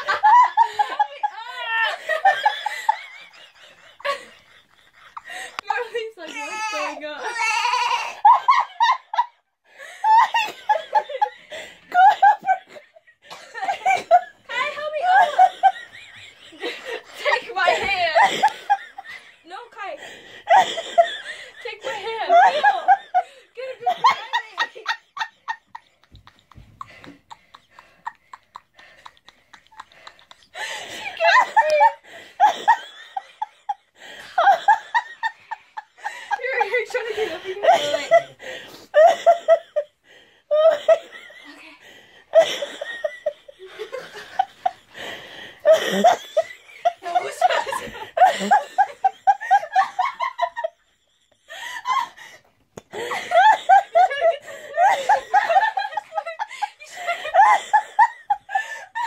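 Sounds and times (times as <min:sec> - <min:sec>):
stifled giggling: 0:08.0 - 0:59.0.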